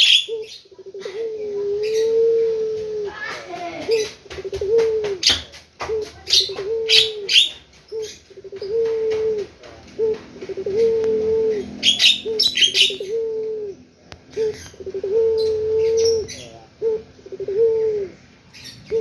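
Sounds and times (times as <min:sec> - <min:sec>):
dove cooing: 0:00.0 - 0:19.0
small birds chirping: 0:00.0 - 0:19.0.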